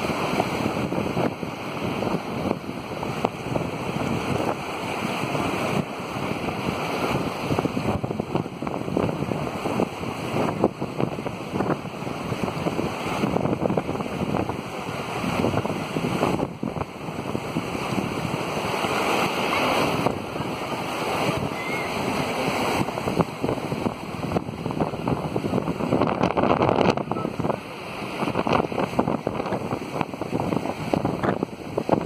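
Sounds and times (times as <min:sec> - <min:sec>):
people wading and splashing: 0:00.0 - 0:32.0
river rushing over rocks: 0:00.0 - 0:32.0.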